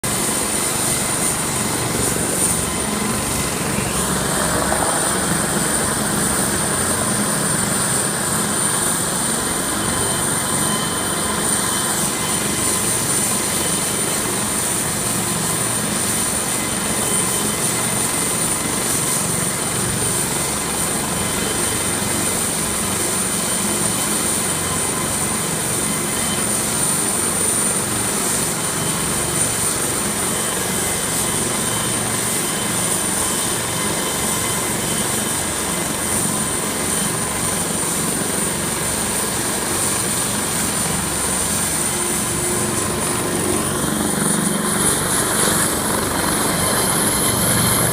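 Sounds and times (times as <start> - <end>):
helicopter rotor and turbine: 0.0 - 47.9
high turbine whine: 0.0 - 47.9.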